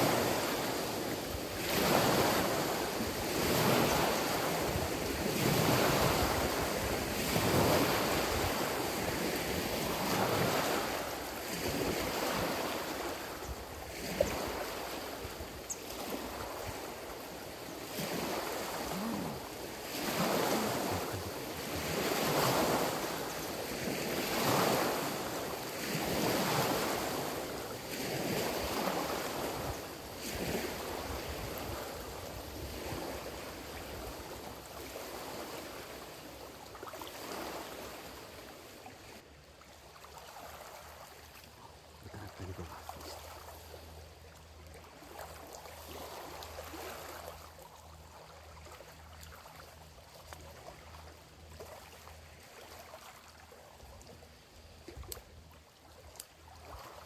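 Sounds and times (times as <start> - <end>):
small waves washing on shore: 0.0 - 57.0.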